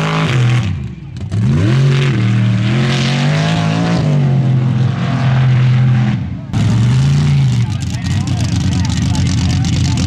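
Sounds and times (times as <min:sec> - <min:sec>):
buggy engine revving: 0:00.0 - 0:10.0.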